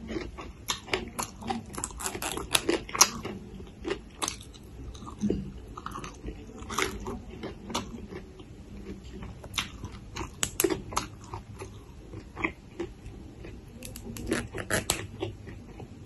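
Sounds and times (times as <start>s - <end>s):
chewing crisp shoots: 0.0s - 15.9s.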